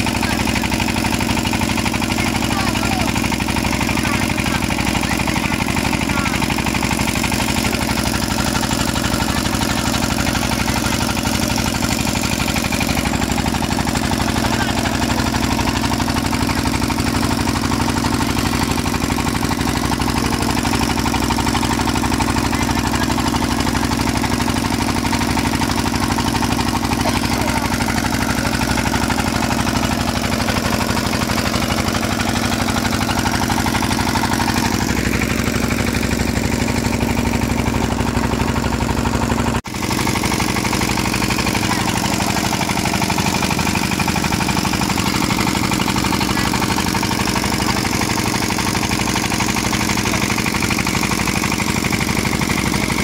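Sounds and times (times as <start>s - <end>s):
boat engine chugging: 0.0s - 53.0s.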